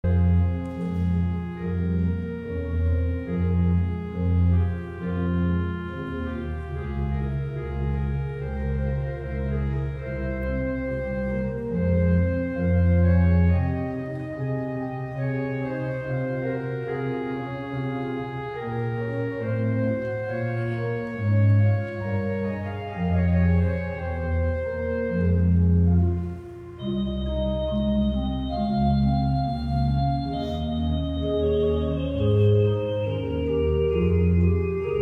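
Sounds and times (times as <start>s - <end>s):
deep bass pedal notes: 0.0s - 35.0s
organ playing sustained chords: 0.0s - 35.0s.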